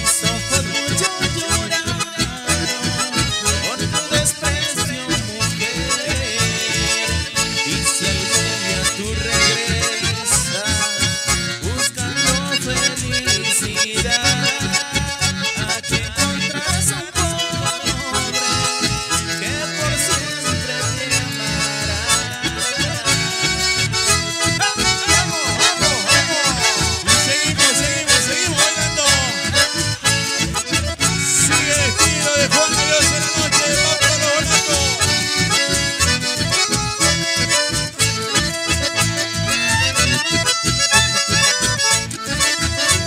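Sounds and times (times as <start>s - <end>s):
acoustic guitar and bass: 0.0s - 43.0s
button accordions and bandoneon: 0.0s - 43.0s.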